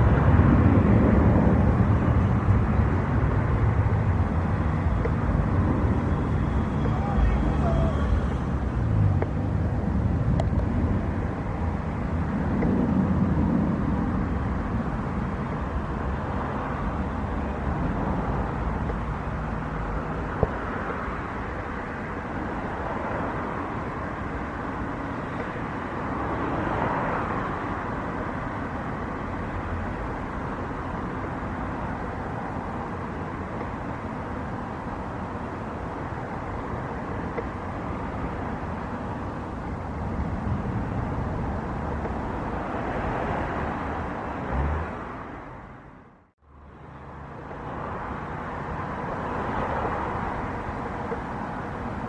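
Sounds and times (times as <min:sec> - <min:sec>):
jet airliner engines rumbling: 0:00.0 - 0:52.0.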